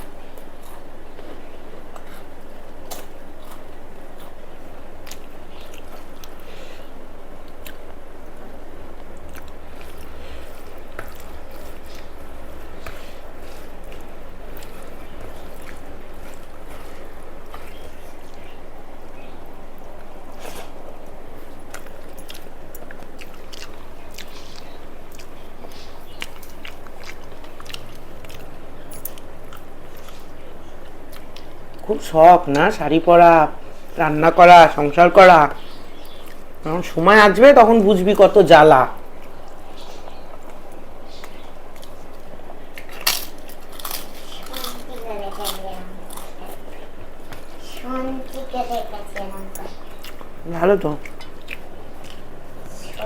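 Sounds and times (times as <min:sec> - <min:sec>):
low background hum: 0:00.0 - 0:53.0
person chewing food: 0:00.0 - 0:53.0.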